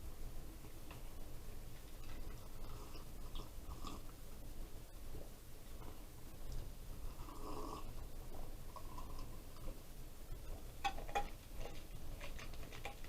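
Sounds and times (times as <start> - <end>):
faint eating sounds: 0.4 - 13.0.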